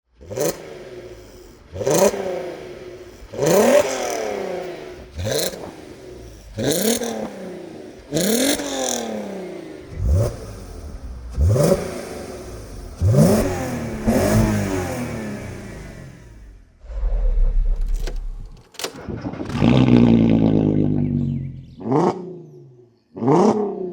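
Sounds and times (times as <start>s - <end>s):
car engine revving: 0.2s - 22.4s.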